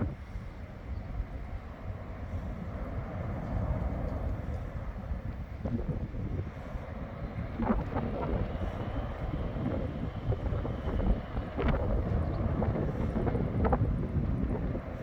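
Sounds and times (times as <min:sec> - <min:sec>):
jet airliner rumbling: 0:00.0 - 0:15.0
wind buffeting microphone: 0:00.0 - 0:15.0.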